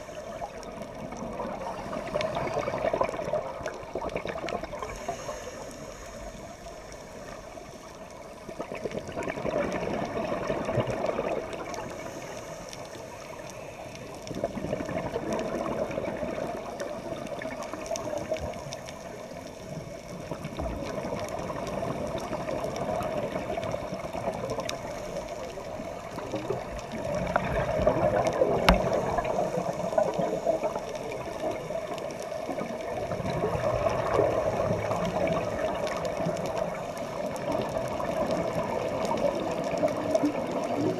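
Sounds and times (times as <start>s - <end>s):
regulator bubbles gurgling: 0.0s - 40.9s
steady water hiss: 0.0s - 40.9s.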